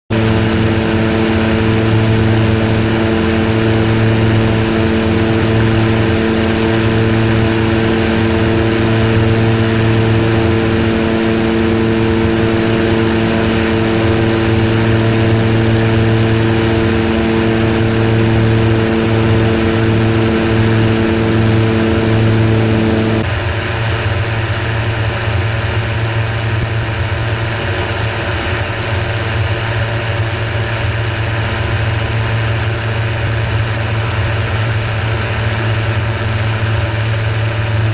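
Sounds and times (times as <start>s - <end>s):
light aircraft engine droning: 0.1s - 37.9s.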